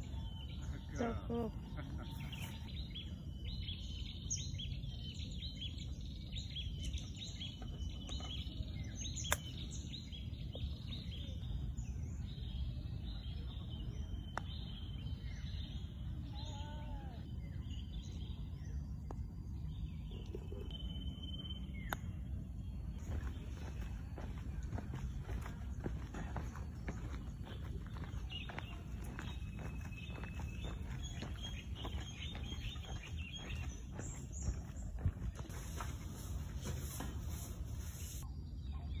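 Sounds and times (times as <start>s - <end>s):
low outdoor rumble: 0.0s - 39.0s
small birds chirping: 0.0s - 39.0s.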